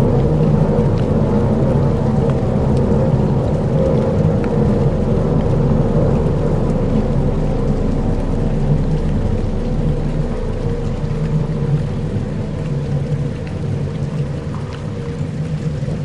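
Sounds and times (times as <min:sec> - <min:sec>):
deep rumble: 0:00.0 - 0:16.0
low drone of held tones: 0:00.0 - 0:16.0
rain-like hiss: 0:00.0 - 0:16.0.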